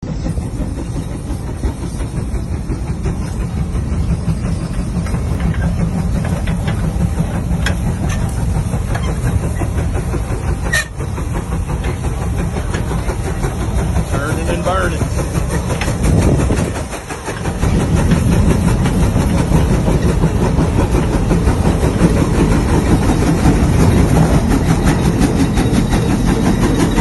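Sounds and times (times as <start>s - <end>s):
heavy vehicle engine rumbling: 0.0s - 27.0s.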